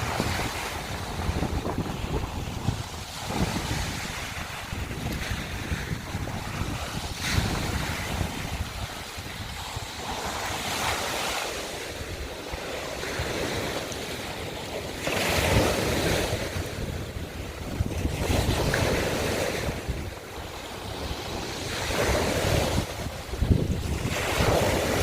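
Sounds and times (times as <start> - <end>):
waves washing over shells: 0.0 - 25.0
wind buffeting microphone: 0.0 - 25.0.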